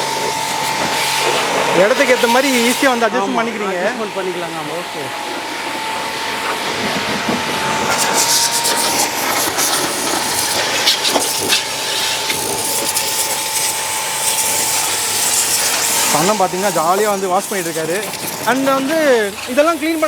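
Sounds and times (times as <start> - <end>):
pressure washer motor whine: 0.0 - 20.0
water jet spraying on car: 0.0 - 20.0.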